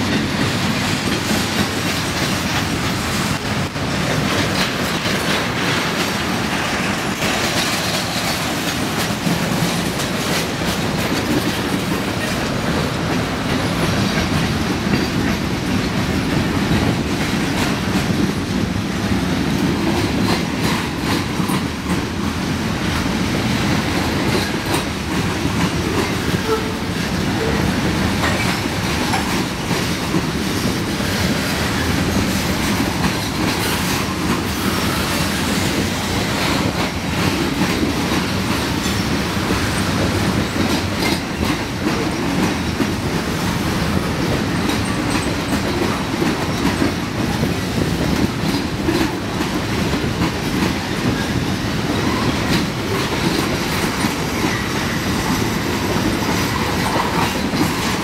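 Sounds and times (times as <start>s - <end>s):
clickety-clack over rail joints: 0.0s - 58.0s
steel wheels rumbling on rails: 0.0s - 58.0s.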